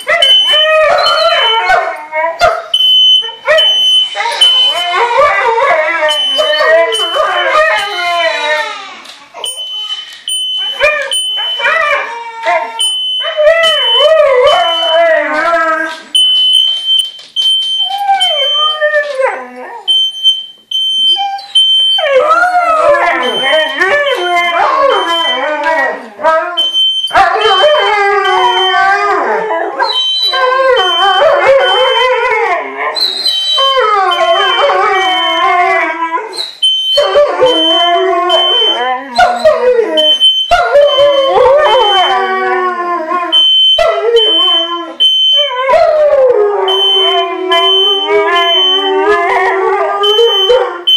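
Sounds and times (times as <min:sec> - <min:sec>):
smoke alarm beeping: 0:00.0 - 0:01.8, 0:02.7 - 0:08.4, 0:09.4 - 0:11.9, 0:12.8 - 0:18.8, 0:19.9 - 0:25.8, 0:26.6 - 0:29.1, 0:29.8 - 0:32.2, 0:33.3 - 0:35.7, 0:36.4 - 0:42.4, 0:43.2 - 0:45.6, 0:46.6 - 0:50.9
dogs howling: 0:00.1 - 0:02.6, 0:04.2 - 0:09.5, 0:10.7 - 0:16.1, 0:21.2 - 0:36.4, 0:37.0 - 0:50.9.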